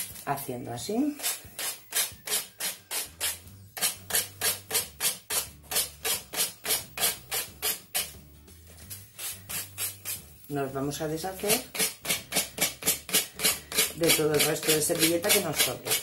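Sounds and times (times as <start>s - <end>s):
sandpaper rubbing on wood: 1.1s - 8.1s, 8.9s - 10.3s, 11.3s - 16.0s.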